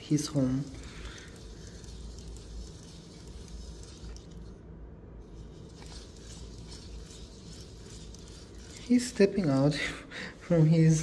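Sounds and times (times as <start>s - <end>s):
small motor whirring: 0.0s - 4.6s, 5.2s - 11.0s.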